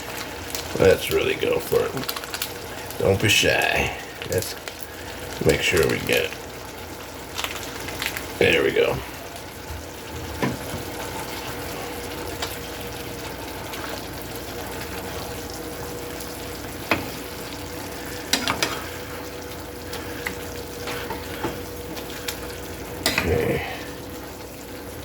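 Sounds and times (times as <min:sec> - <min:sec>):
meat sizzling in a pan: 0:00.0 - 0:25.0.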